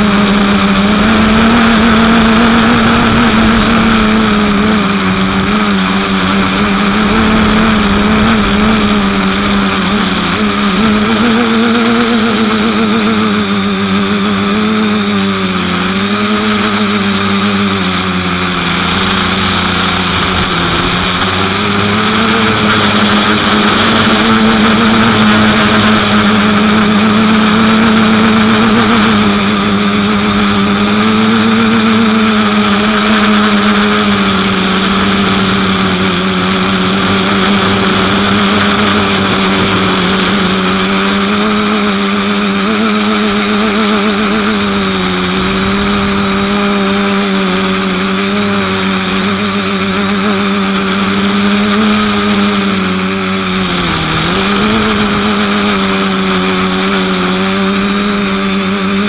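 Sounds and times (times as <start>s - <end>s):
small vehicle motor running: 0.0s - 59.0s
thin high whine: 0.0s - 59.0s.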